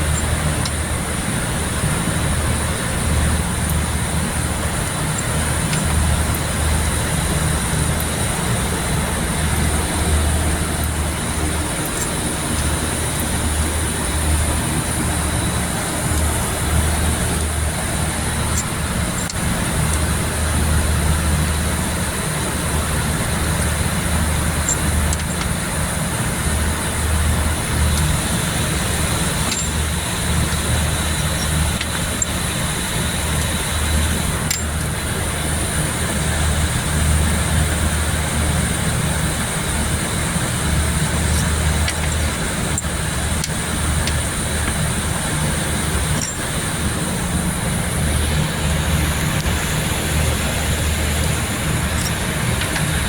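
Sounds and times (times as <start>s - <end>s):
low pulsing mechanical hum: 0.0s - 53.0s
noisy background: 0.0s - 53.0s.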